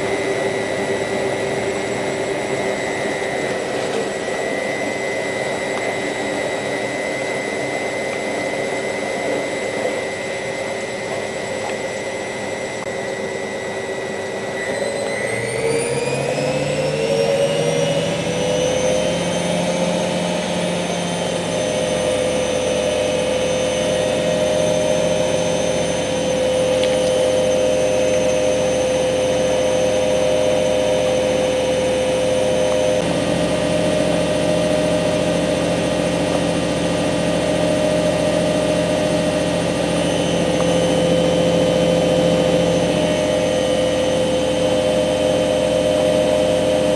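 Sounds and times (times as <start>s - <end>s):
washing machine motor whine: 0.0s - 46.9s.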